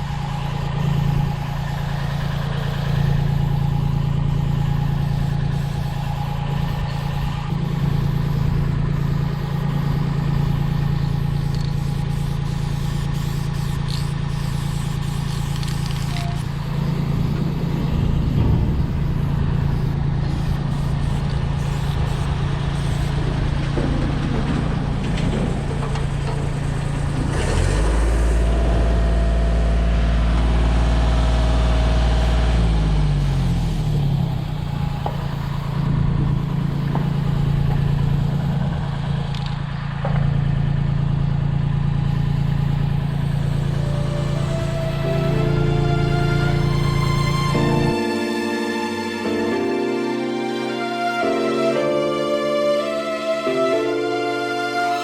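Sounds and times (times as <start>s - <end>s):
engine idling: 0.0s - 48.0s
deeper engine note: 0.0s - 55.0s.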